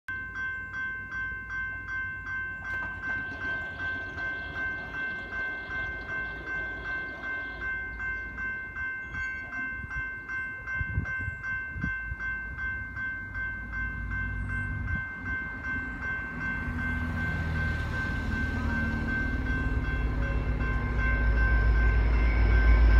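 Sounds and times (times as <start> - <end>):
level crossing warning bell: 0.1 - 22.9
low rumble of train: 0.1 - 22.9.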